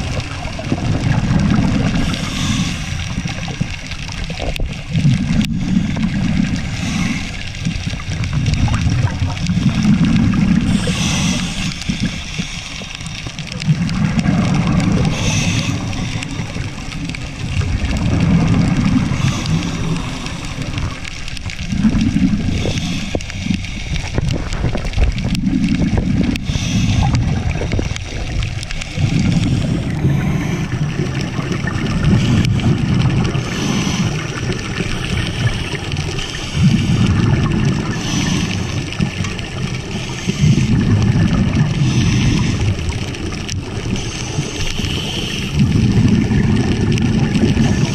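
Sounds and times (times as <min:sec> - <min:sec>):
exhaled bubbles rushing: 0:00.0 - 0:47.9
regulator hiss on inhale: 0:01.8 - 0:04.4, 0:05.3 - 0:08.0, 0:09.3 - 0:17.6, 0:18.9 - 0:24.6, 0:26.2 - 0:31.2, 0:32.0 - 0:46.1, 0:47.4 - 0:47.9.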